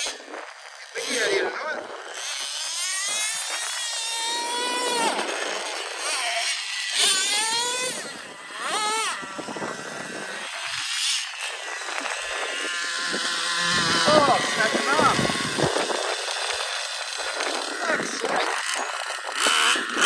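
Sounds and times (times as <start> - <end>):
small nitro engine revving: 0.0 - 20.0.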